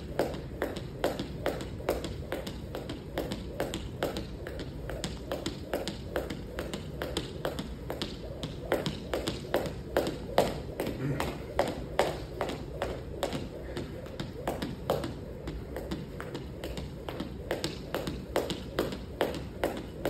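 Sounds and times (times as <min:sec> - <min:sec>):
jump rope ticking on mat: 0:00.0 - 0:20.0.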